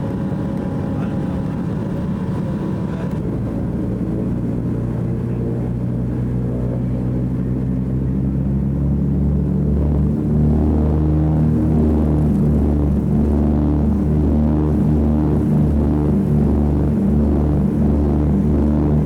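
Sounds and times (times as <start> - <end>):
piston aircraft engines droning: 0.0 - 19.0.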